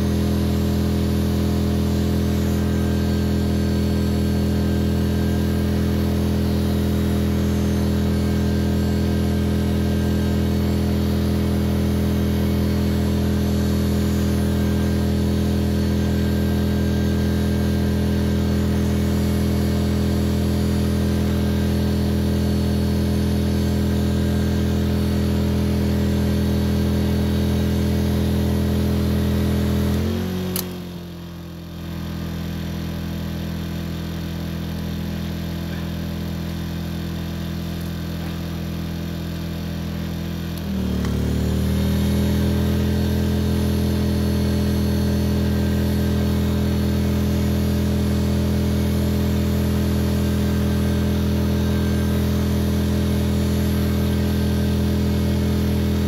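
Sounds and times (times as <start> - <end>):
electric heat gun: 0.0 - 31.3, 36.3 - 56.0
generator engine running: 0.0 - 56.0.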